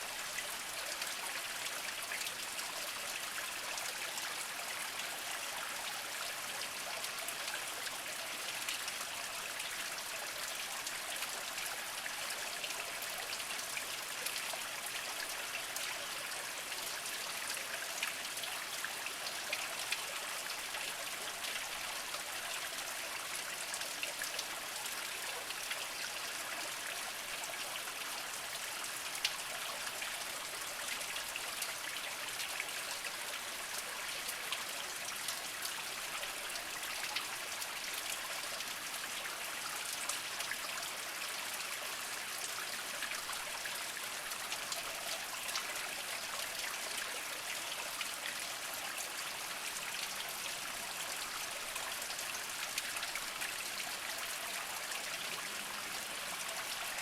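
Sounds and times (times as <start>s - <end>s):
spring water trickling over rocks: 0.0s - 57.0s.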